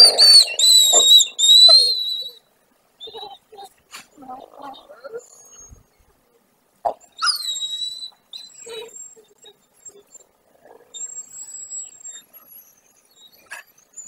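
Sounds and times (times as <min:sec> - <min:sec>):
wolves whining: 0:00.0 - 0:14.0.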